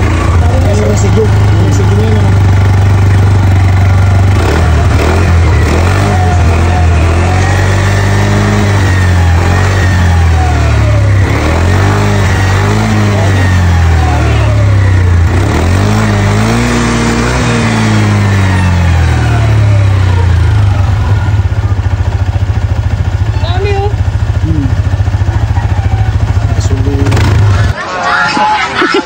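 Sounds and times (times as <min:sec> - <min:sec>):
motorcycle engine idling: 0:00.0 - 0:27.8
motorcycle engine revving: 0:00.0 - 0:27.8.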